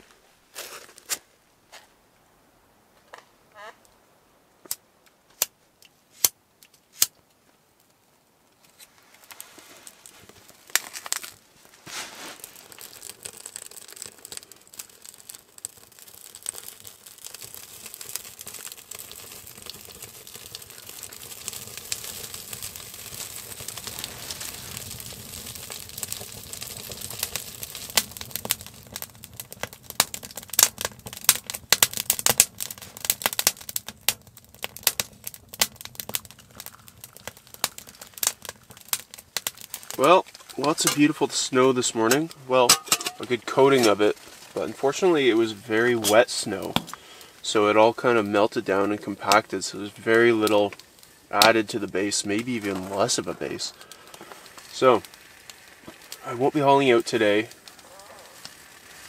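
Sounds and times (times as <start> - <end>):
kindling crackling and popping: 4.6 - 59.0.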